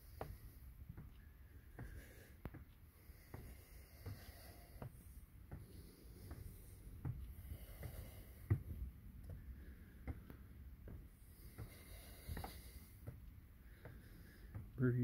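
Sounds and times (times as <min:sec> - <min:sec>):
footsteps on wooden stairs: 0:00.0 - 0:14.8
person breathing: 0:00.0 - 0:14.8.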